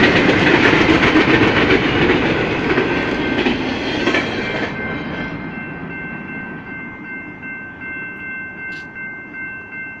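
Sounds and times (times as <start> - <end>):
crossing warning bell ringing: 0.0 - 10.0
freight train rumbling: 0.0 - 10.0.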